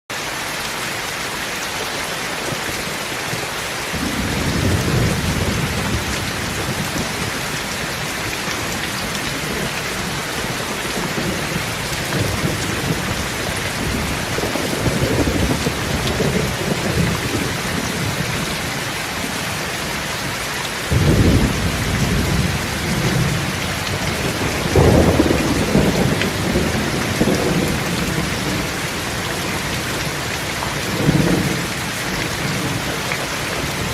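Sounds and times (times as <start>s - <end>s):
rain pouring: 0.1s - 33.9s
thunder rumbling: 3.9s - 19.3s, 20.9s - 33.9s.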